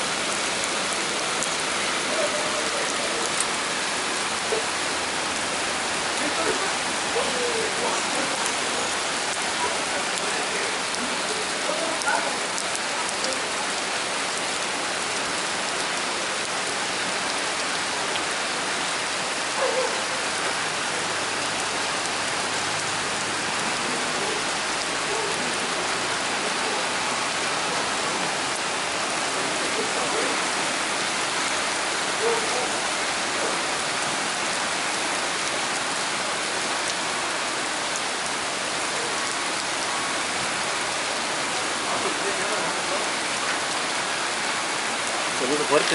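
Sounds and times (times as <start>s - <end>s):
torrential rain pouring: 0.0s - 45.9s.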